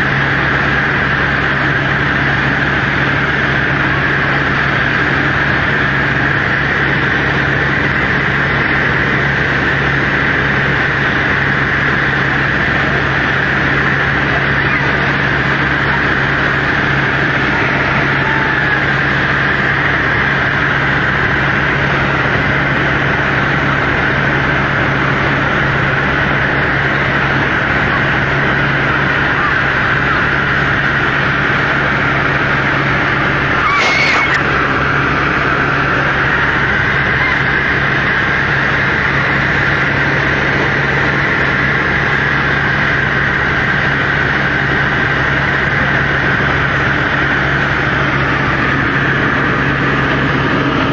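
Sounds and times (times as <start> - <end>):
helicopter rotor and engine drone: 0.0 - 50.9.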